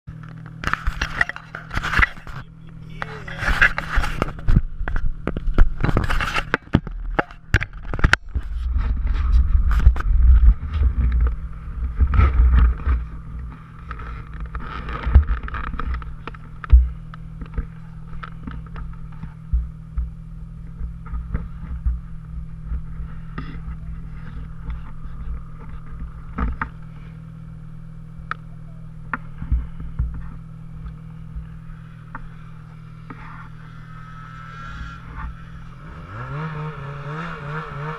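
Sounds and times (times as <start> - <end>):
snowmobile engine droning: 0.1 - 37.9.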